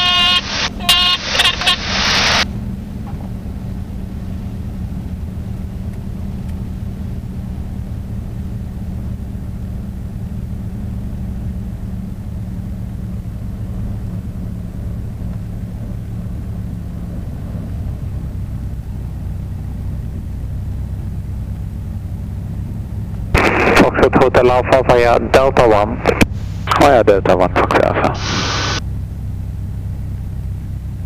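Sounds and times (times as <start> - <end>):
propeller plane engine droning: 0.0 - 31.0.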